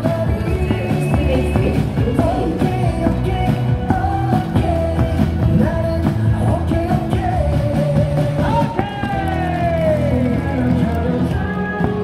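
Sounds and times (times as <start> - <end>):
rock song over loudspeakers: 0.0 - 12.0
drum beat: 0.2 - 10.4.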